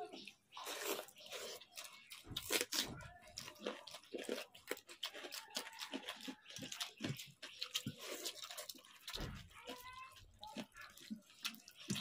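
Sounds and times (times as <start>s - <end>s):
mouths chewing and smacking: 0.0s - 12.0s
fingers squelching through wet rice: 0.1s - 12.0s.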